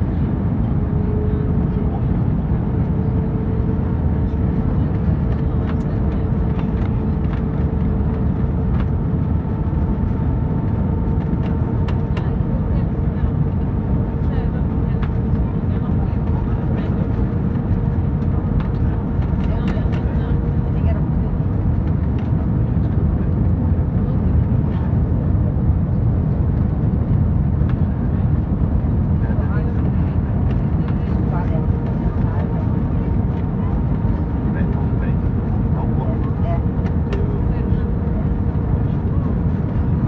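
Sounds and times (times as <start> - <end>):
engine and airflow rumble: 0.0 - 40.0.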